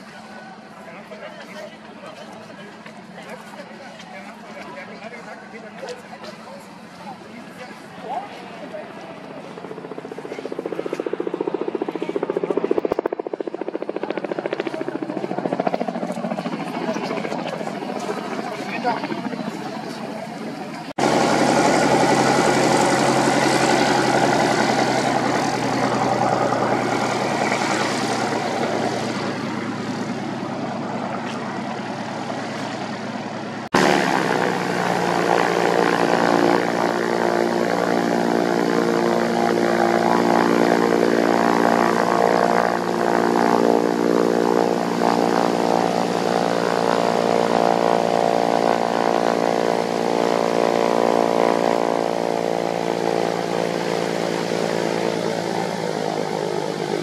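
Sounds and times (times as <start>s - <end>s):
propeller aircraft engine running: 0.0s - 57.0s.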